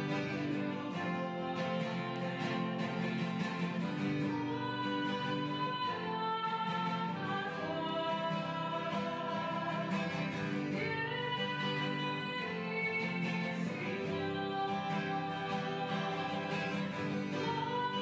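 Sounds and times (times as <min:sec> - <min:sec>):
acoustic guitar: 0:00.0 - 0:18.0
hymn singing: 0:00.0 - 0:18.0.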